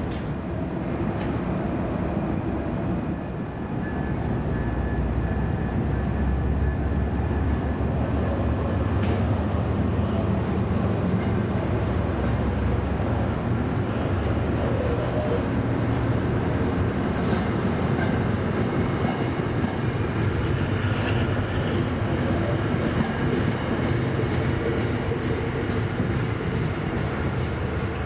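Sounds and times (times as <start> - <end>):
train rumbling through station: 0.0 - 28.0.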